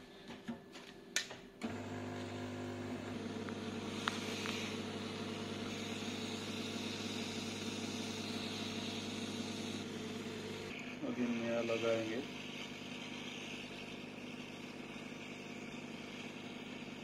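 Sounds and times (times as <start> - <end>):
hot-air gun blowing: 1.7 - 17.0.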